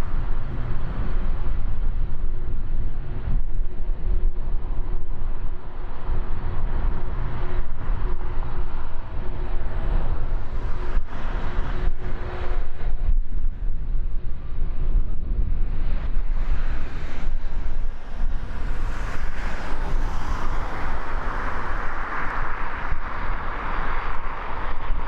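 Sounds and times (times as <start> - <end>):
faint engine whine: 0.0 - 25.0.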